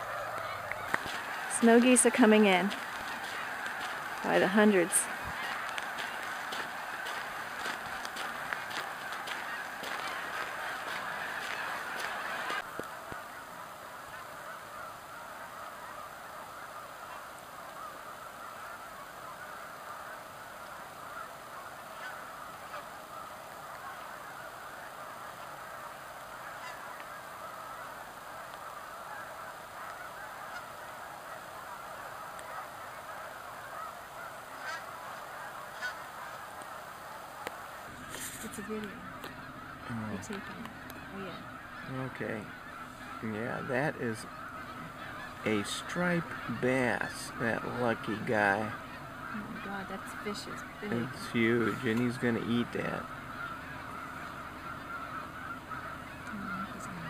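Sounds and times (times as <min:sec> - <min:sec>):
flock of geese honking: 0:00.0 - 0:57.0.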